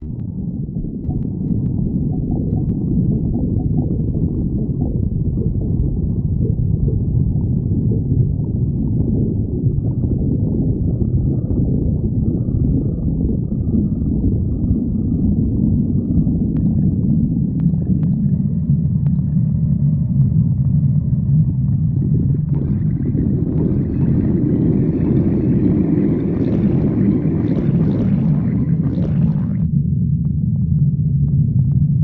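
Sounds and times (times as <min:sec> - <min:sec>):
stomach growling and gurgling: 0:00.0 - 0:32.0.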